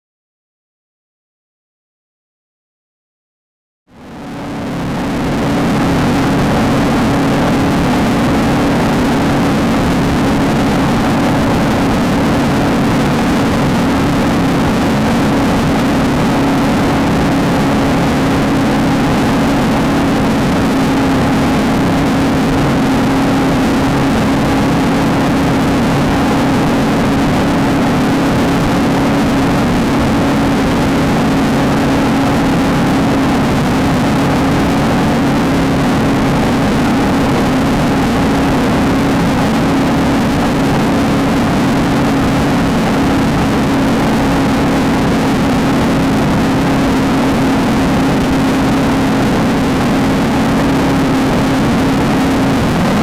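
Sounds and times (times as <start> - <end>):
rush of noise: 3.9 - 53.0
race car engine running: 4.0 - 53.0.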